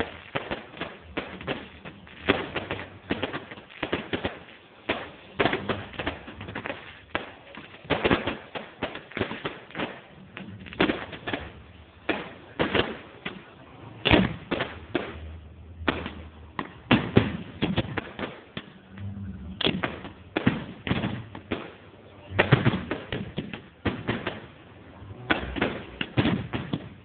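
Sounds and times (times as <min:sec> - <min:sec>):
fireworks bangs and pops: 0:00.0 - 0:27.0
loud firework blasts: 0:00.0 - 0:27.0.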